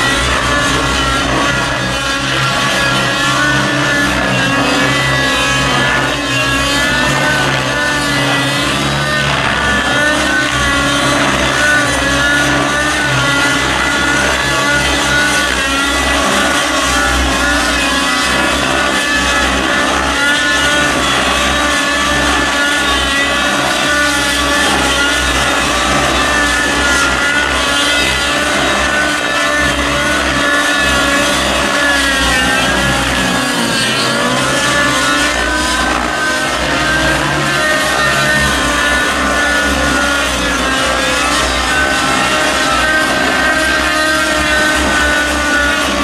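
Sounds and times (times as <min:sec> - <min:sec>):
model helicopter rotors whining: 0:00.0 - 0:46.0.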